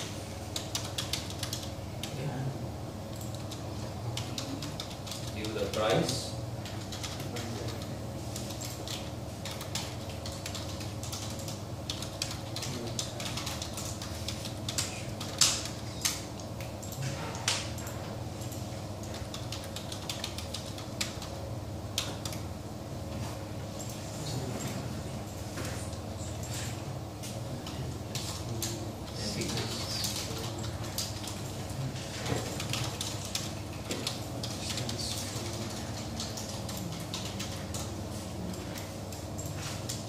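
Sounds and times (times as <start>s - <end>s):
keyboard typing: 0.0s - 2.2s, 3.1s - 22.5s, 23.7s - 40.0s
steady low hum: 0.0s - 40.0s.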